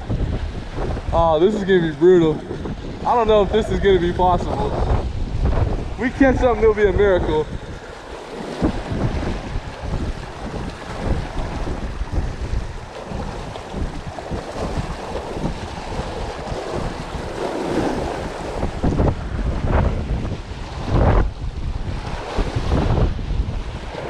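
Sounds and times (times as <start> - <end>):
waves washing against shore: 0.0 - 24.0
wind buffeting microphone: 0.0 - 24.0.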